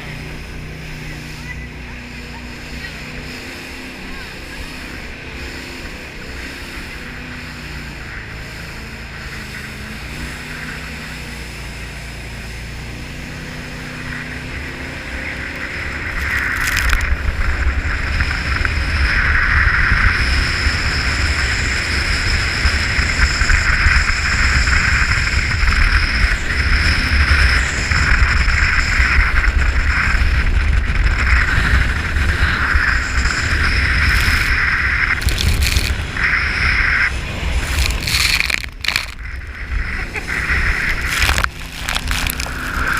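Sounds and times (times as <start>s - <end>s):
boat engine rumbling: 0.0s - 42.9s
wind: 0.0s - 42.9s.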